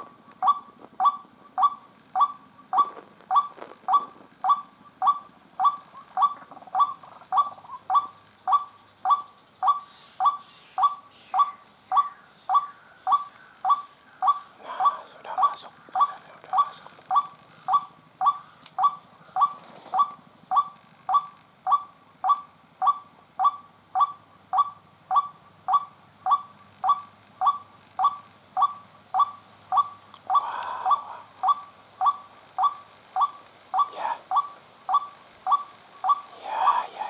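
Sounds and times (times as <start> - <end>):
waterhen repeated call: 0.0 - 37.0.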